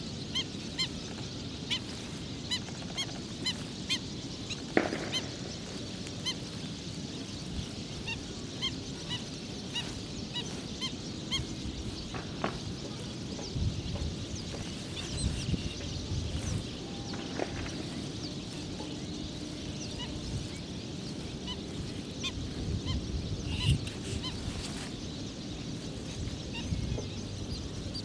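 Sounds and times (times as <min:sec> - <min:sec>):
birds calling: 0:00.0 - 0:28.0.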